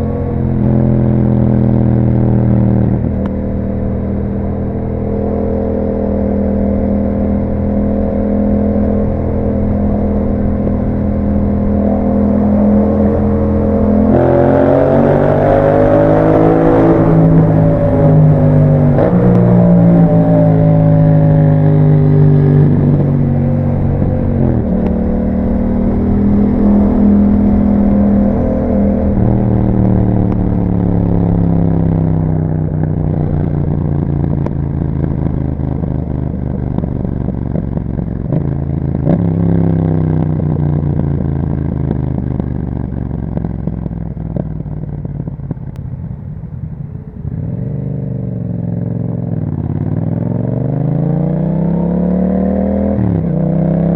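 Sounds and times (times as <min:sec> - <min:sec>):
motorcycle engine while riding: 0:00.0 - 0:53.9.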